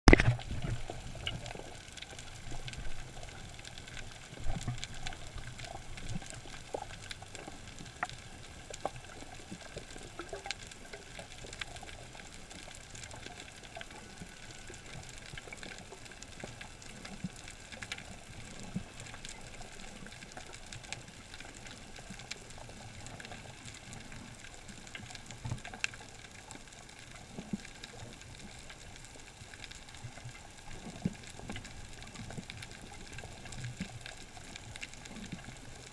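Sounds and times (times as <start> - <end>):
clicks and crackles: 0.1 - 35.9
low underwater hiss: 0.1 - 35.9.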